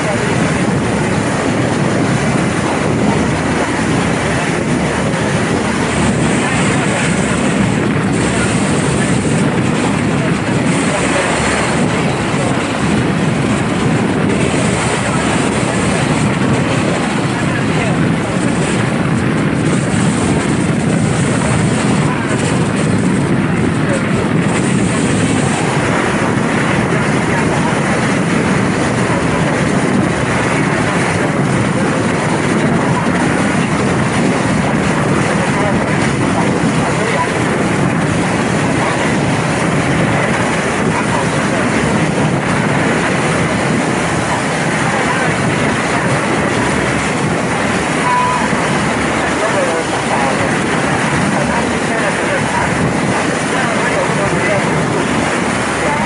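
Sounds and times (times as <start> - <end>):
motorboat engine running: 0.0 - 56.0
water rushing past boat: 0.0 - 56.0
wind: 0.0 - 56.0.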